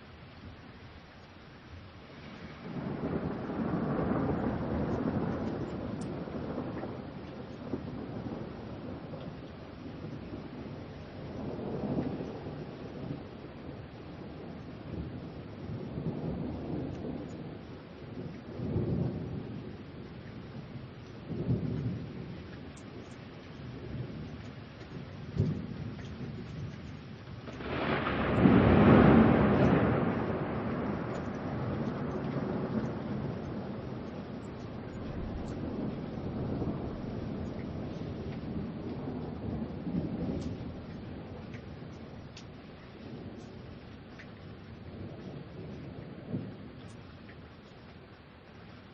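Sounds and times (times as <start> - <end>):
steady rain hiss: 0.0 - 48.9
thunder rumbling: 2.1 - 48.9.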